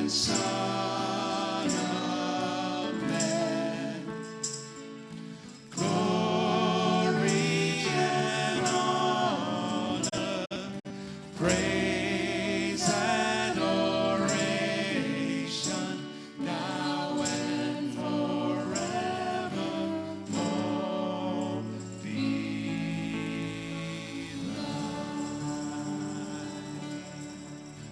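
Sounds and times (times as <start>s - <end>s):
singing with instrumental accompaniment: 0.0s - 27.9s.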